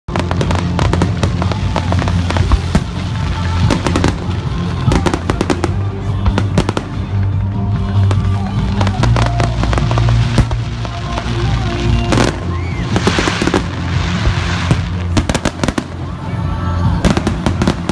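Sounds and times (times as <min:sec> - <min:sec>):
fireworks bangs and crackles: 0:00.1 - 0:17.9
music with steady bass: 0:00.1 - 0:17.9.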